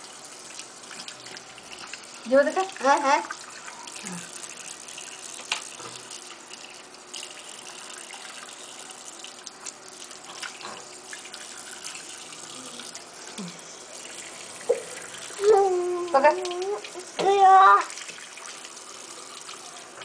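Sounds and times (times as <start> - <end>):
tap running into washbasin: 0.0 - 20.0.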